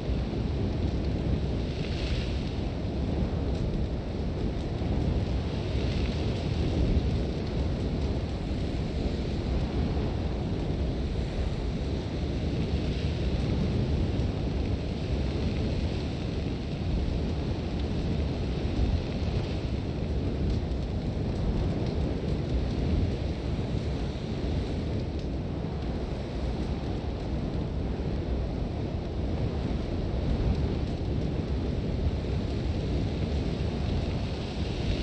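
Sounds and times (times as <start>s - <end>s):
strong wind rumbling: 0.0s - 35.0s.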